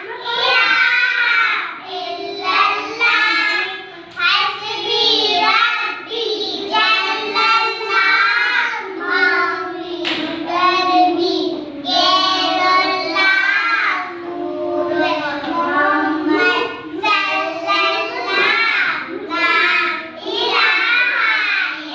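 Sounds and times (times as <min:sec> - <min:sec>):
girls singing in unison: 0:00.0 - 0:21.9.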